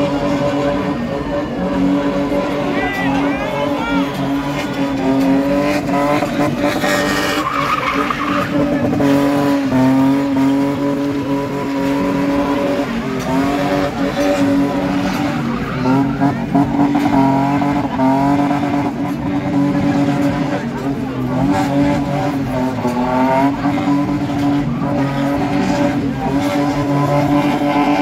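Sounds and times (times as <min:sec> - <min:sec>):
car engine revving high: 0:00.0 - 0:28.0
tyres spinning and squealing: 0:00.0 - 0:28.0.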